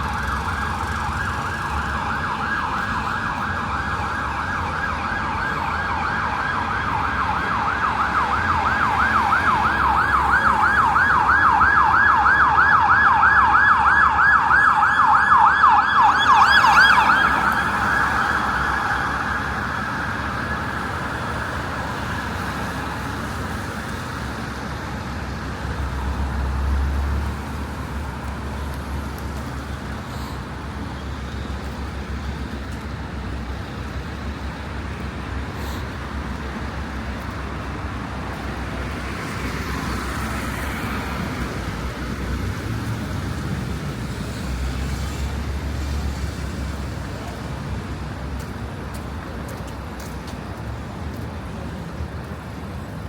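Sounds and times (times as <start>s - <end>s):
cars and buses passing: 0.0s - 53.0s
emergency vehicle siren: 0.0s - 53.0s
heavy vehicle engine rumble: 0.0s - 53.0s
steady road hum: 0.0s - 53.0s.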